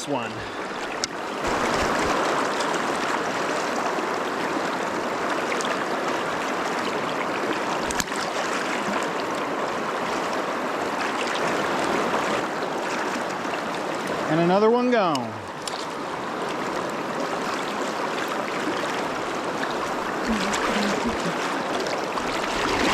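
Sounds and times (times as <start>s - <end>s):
river current rushing: 0.0s - 22.9s.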